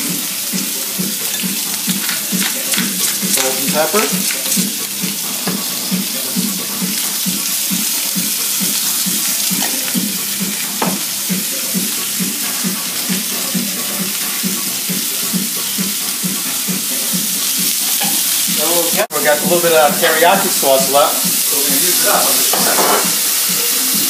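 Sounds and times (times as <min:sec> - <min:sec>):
shrimp sizzling in frying pan: 0:00.0 - 0:24.0.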